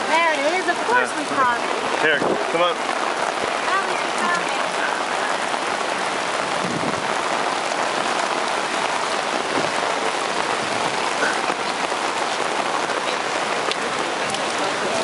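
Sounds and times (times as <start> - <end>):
rain hissing on pavement: 0.0 - 15.0
raindrop ticks: 1.5 - 6.3, 7.1 - 15.0.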